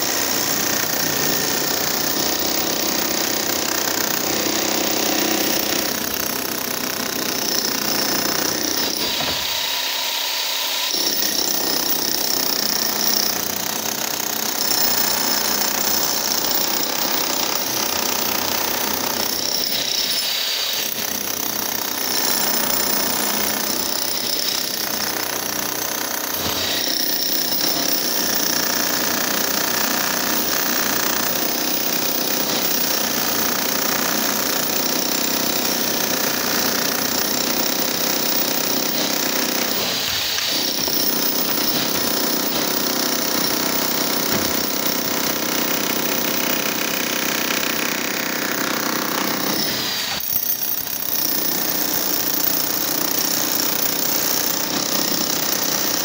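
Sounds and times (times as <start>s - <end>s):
demolition hammer breaking concrete: 0.0s - 9.9s, 10.9s - 56.0s.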